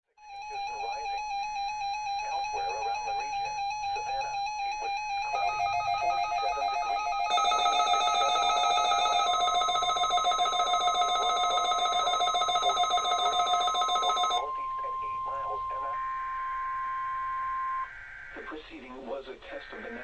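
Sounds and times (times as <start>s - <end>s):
steady high alarm tone: 0.2s - 18.4s
warbling electronic alarm tones: 0.2s - 18.5s.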